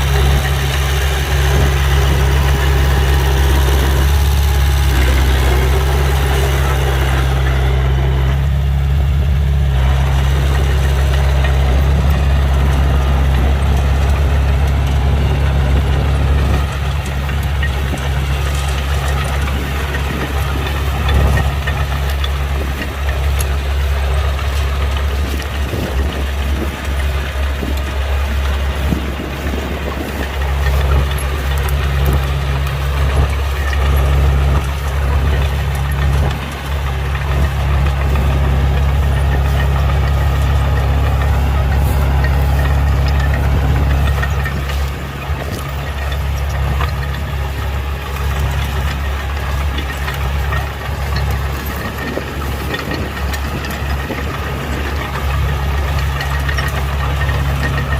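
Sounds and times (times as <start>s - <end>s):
heavy diesel engines humming: 0.0s - 57.9s.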